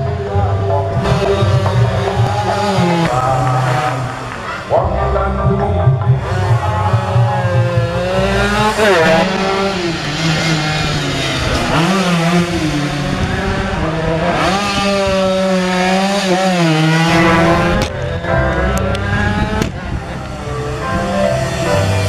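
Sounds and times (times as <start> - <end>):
racing motorcycles passing: 0.0 - 22.0.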